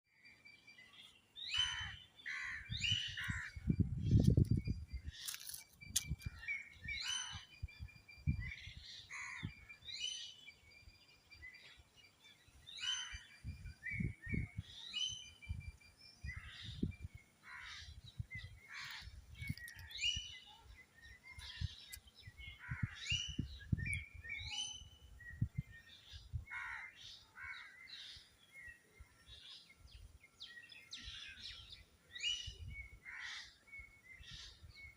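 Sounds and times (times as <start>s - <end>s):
birds calling: 0.1s - 34.9s.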